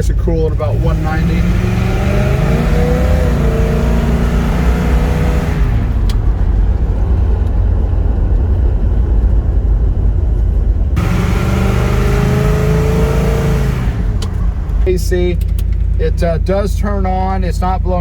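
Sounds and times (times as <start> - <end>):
vee eight engine accelerating: 0.0 - 9.8, 10.9 - 16.5.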